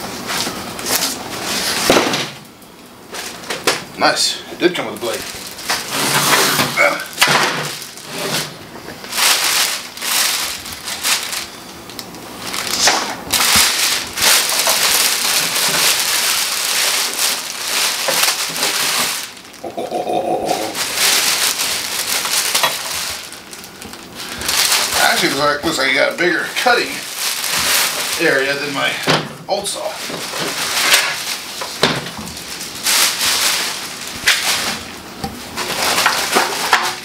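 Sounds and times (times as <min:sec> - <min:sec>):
plastic wrapping crinkling: 0:00.1 - 0:37.0.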